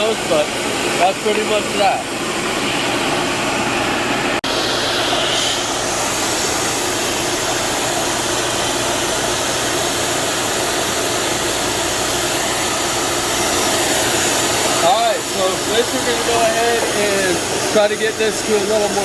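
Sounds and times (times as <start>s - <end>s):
fan blower running: 0.0s - 19.0s.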